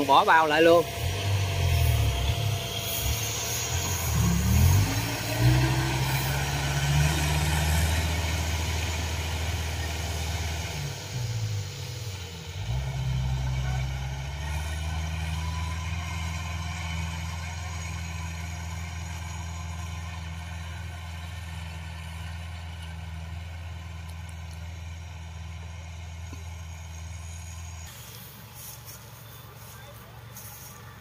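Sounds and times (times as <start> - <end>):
tracked vehicle engine revving: 0.0 - 31.0.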